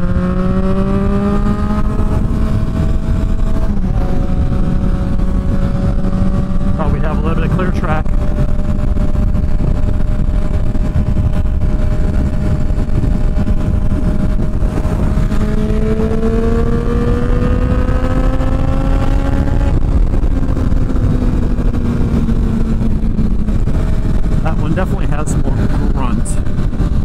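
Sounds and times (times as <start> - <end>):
motorcycle engine revving: 0.0 - 27.0
wind rush: 0.0 - 27.0.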